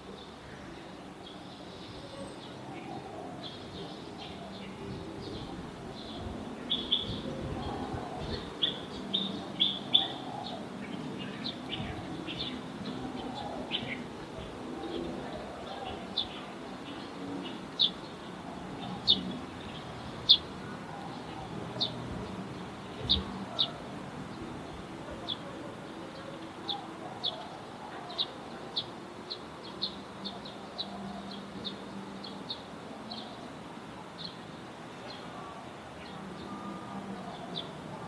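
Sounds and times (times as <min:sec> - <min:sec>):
low outdoor murmur: 0:00.0 - 0:38.0.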